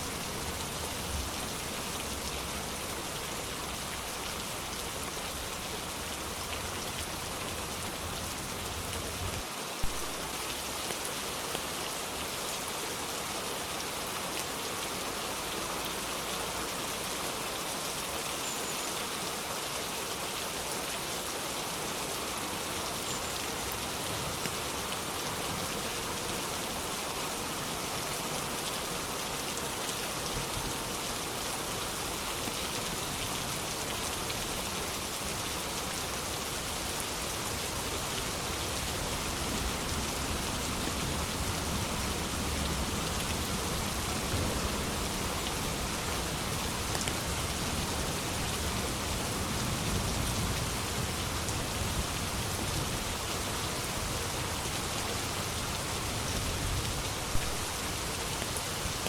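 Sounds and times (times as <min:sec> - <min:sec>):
rain hitting a surface: 0:00.0 - 0:59.0.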